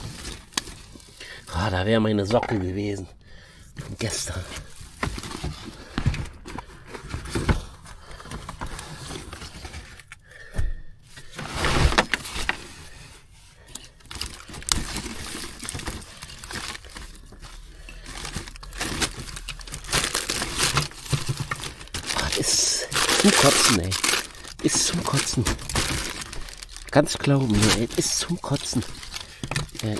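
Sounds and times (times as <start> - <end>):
clothes rustling and crinkling: 0.0 - 1.7, 3.8 - 10.2, 11.1 - 29.9.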